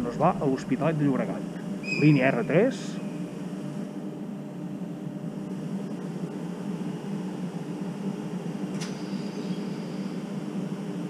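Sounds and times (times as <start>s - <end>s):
electric train hum: 0.0s - 11.0s.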